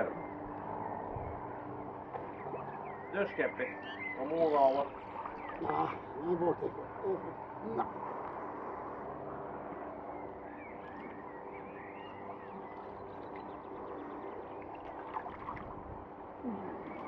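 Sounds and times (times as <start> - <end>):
birds chirping: 0.0 - 17.0
pond pump humming: 0.0 - 17.0.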